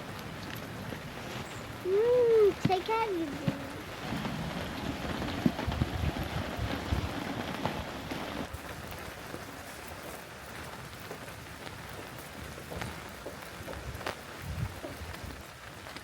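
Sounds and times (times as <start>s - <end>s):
heavy raindrops striking surface: 0.0s - 16.0s
rain falling steadily: 0.0s - 16.0s.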